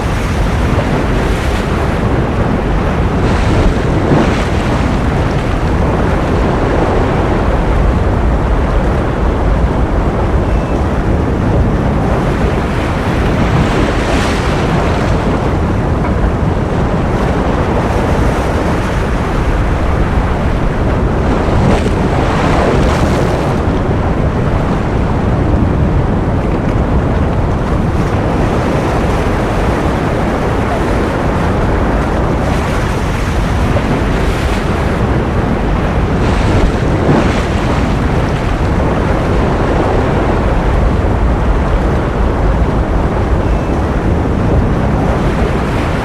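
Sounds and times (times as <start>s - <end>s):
ocean waves washing: 0.0s - 46.0s
wave breaking: 0.0s - 46.0s.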